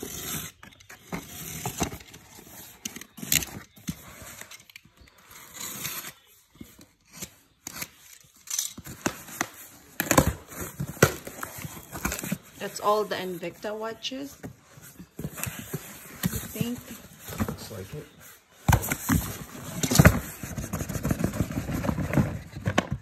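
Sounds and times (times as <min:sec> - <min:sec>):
packaging rustling and crinkling: 0:00.0 - 0:13.1, 0:14.4 - 0:23.0.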